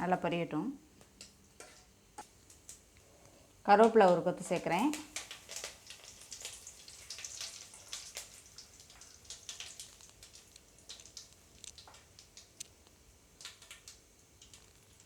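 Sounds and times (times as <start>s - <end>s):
spices spluttering in hot oil: 1.0s - 15.0s.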